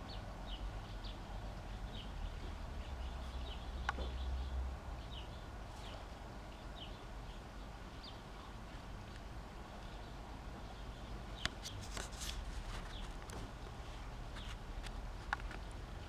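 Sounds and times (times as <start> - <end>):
steady low background hum: 0.0 - 16.0.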